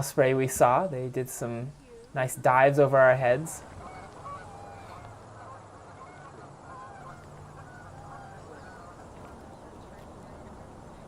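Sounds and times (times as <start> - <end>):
birds calling faintly: 0.0 - 11.0.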